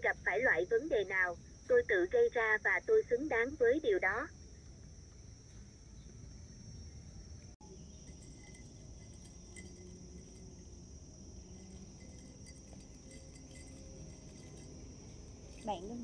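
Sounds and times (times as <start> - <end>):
insects chirring: 0.0 - 16.0
low background rumble: 0.0 - 16.0.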